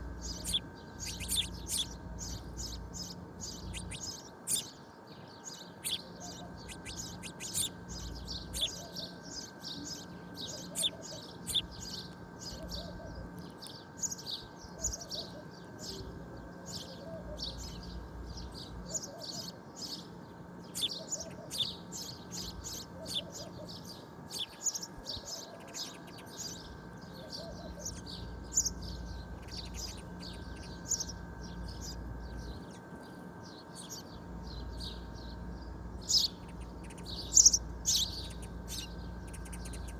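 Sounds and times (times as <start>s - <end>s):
faint steady hum: 0.0s - 39.9s
small birds chirping: 0.0s - 39.9s.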